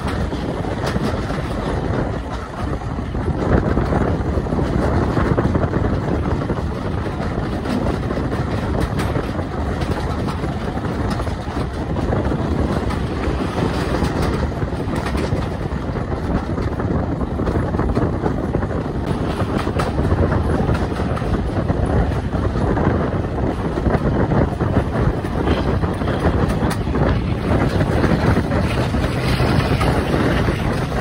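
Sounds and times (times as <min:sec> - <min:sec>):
rushing air: 0:00.0 - 0:31.0
train wheels rumbling on rail: 0:00.0 - 0:31.0.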